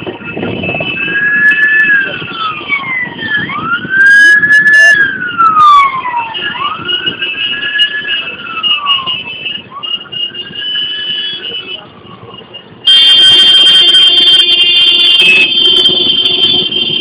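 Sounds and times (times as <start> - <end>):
emergency vehicle siren wailing: 0.0 - 11.3, 12.8 - 17.0.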